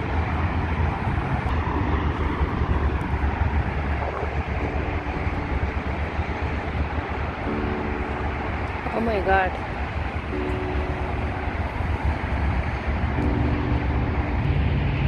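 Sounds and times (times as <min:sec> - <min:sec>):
faint hum: 0:00.0 - 0:15.0
wind buffeting microphone: 0:00.0 - 0:15.0.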